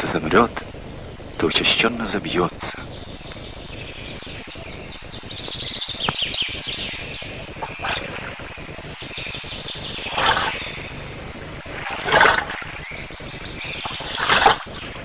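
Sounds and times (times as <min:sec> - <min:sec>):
low background noise: 0:00.0 - 0:15.0
small birds chirping: 0:00.0 - 0:15.0.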